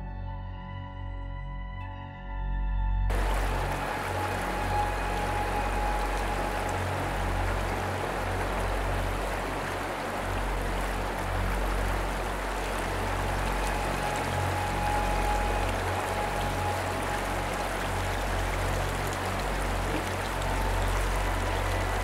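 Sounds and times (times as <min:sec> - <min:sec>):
creek water rushing over rocks: 0:03.1 - 0:22.0.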